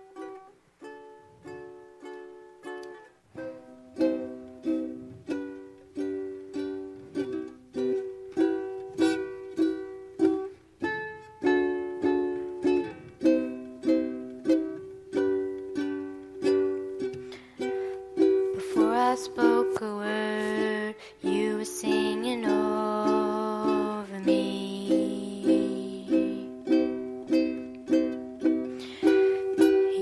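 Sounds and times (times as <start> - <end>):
acoustic strings strumming chords: 0.0 - 30.0.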